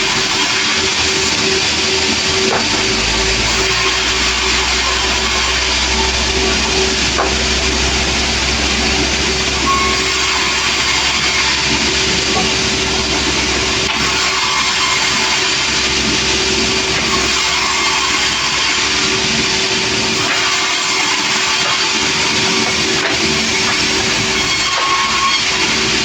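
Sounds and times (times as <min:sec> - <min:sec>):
sawmill machinery humming: 0:00.0 - 0:26.0.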